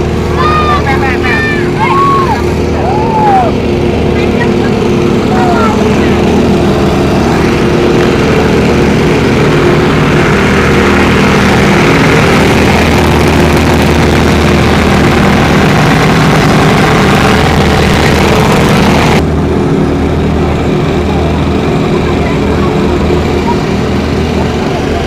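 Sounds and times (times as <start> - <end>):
fire pump engine running: 0.0 - 25.0.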